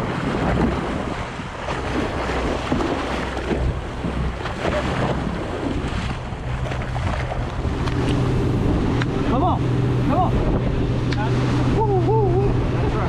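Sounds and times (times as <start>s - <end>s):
low engine hum: 0.0s - 13.0s
water rushing along boat hull: 0.0s - 13.0s
wind on microphone: 0.0s - 13.0s.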